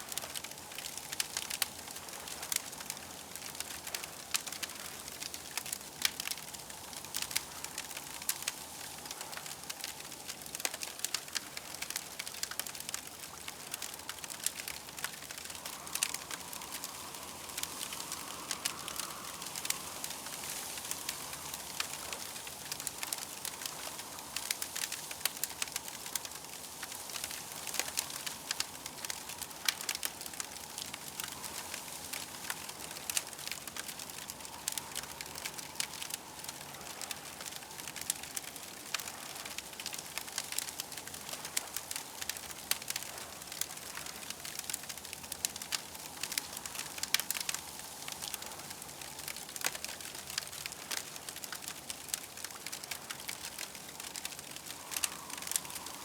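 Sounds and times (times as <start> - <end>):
campfire crackling: 0.0 - 56.0
soft continuous hiss: 0.0 - 56.0.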